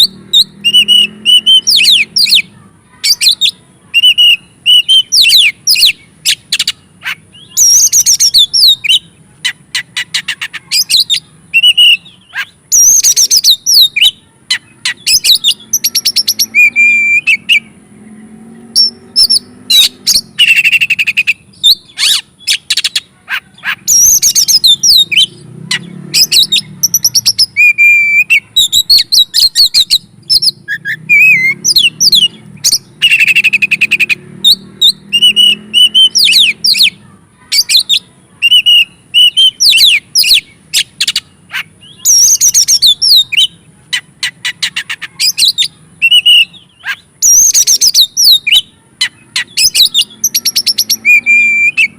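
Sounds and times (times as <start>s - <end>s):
songbird singing: 0.0s - 51.9s.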